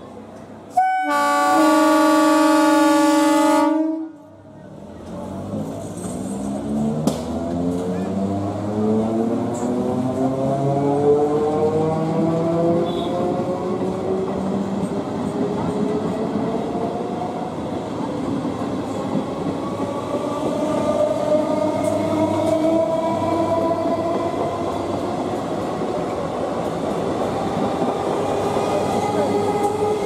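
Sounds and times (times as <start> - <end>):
train wheels on track: 0.0 - 30.0.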